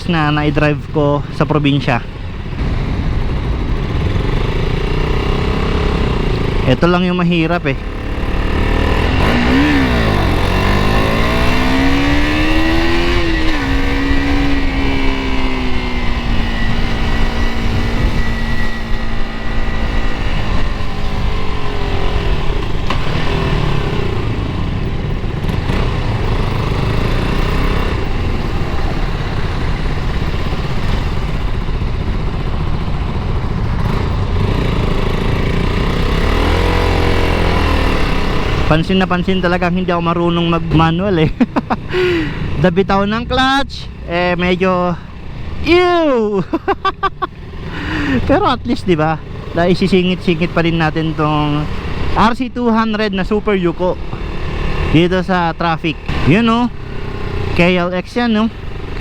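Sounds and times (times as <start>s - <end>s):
motorcycle engine: 0.0s - 59.0s
wind and road rumble: 0.0s - 59.0s.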